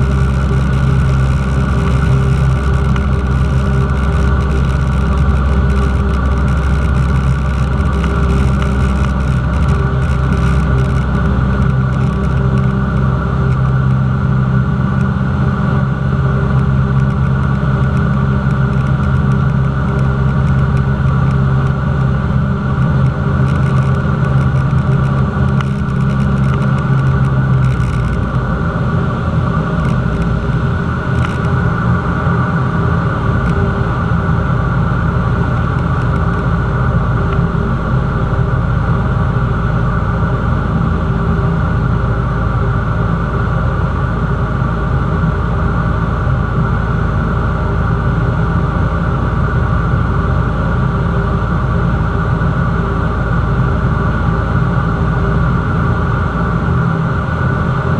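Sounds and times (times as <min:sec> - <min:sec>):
propeller plane engine running: 0:00.0 - 0:57.9.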